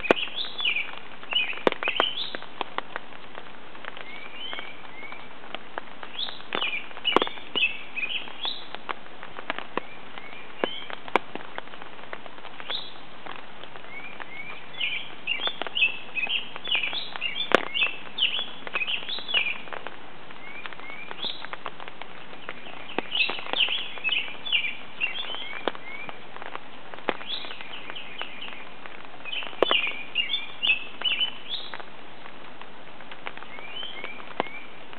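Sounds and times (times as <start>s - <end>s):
songbird chirping: 0.0s - 2.5s, 3.9s - 5.4s, 6.1s - 8.9s, 9.5s - 11.0s, 12.6s - 13.1s, 13.8s - 26.2s, 27.1s - 32.3s, 33.3s - 34.9s
raindrops ticking on umbrella: 0.0s - 34.9s.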